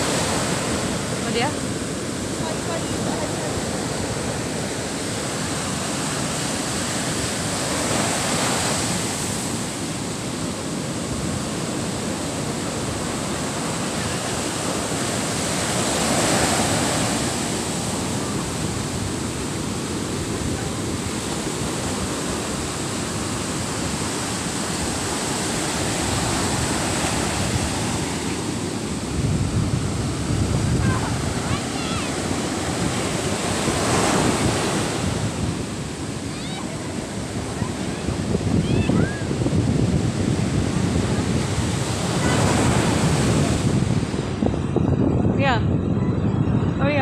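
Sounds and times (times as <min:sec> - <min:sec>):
waves washing up a sandy beach: 0:00.0 - 0:45.9.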